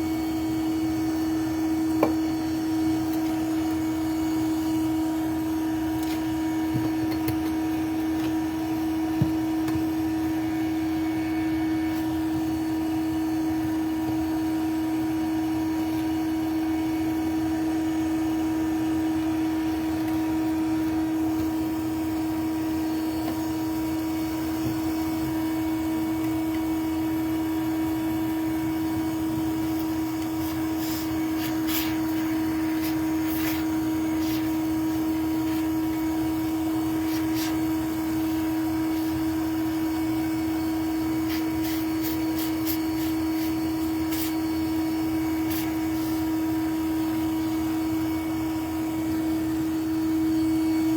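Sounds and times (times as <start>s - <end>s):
vacuum motor humming: 0.0s - 50.9s.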